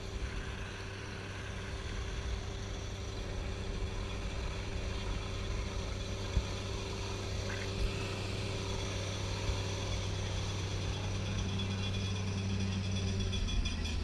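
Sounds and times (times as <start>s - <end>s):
boat winch mechanical drone: 0.0s - 14.0s.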